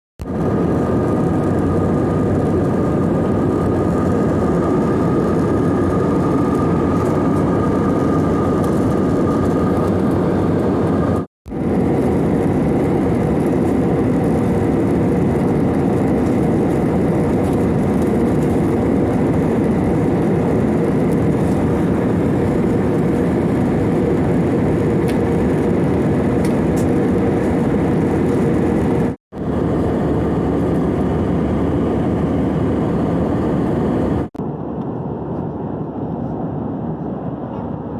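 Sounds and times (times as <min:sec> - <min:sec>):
airplane noise in flight: 0:00.2 - 0:37.9.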